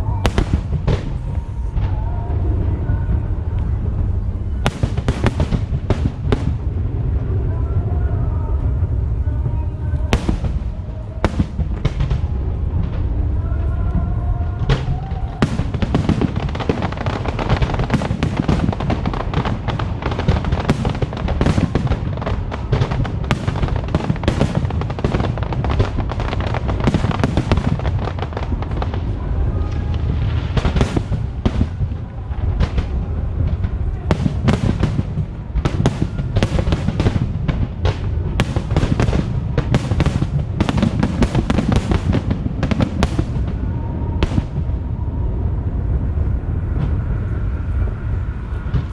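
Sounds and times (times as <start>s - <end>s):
fireworks bangs: 0.0s - 47.2s, 48.6s - 48.9s
low rumble: 0.0s - 48.9s.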